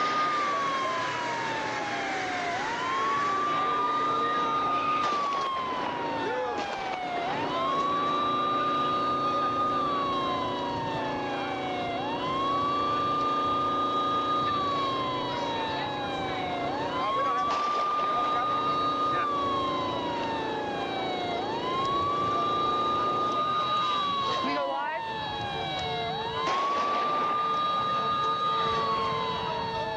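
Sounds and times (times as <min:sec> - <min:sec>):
police siren wailing: 0:00.0 - 0:29.9.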